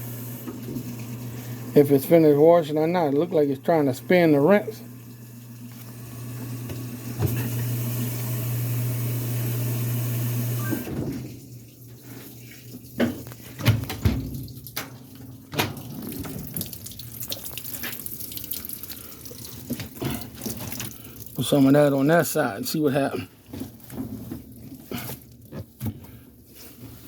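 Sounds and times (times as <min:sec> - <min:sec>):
washing machine filling with water: 0:00.0 - 0:27.0.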